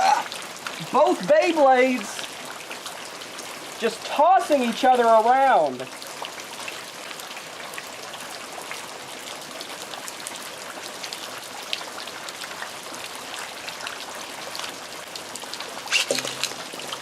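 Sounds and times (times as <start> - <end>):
heavy rain falling: 0.0 - 17.0
raindrops spattering close by: 0.0 - 17.0.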